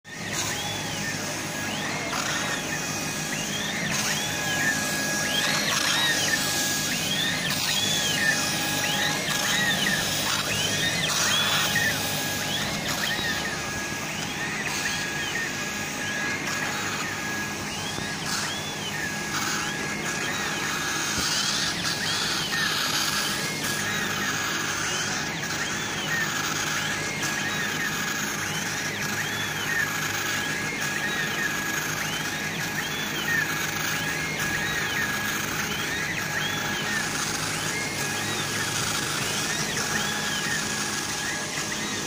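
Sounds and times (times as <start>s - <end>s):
laser head drive motors whining: 0.0s - 42.0s.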